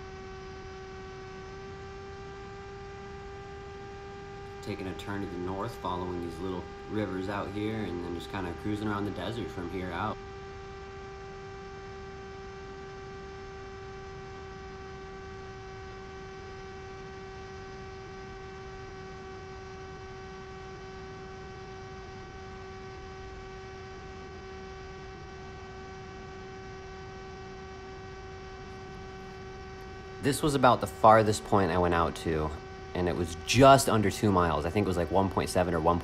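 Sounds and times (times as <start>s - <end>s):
steady electric hum: 0.0s - 36.0s.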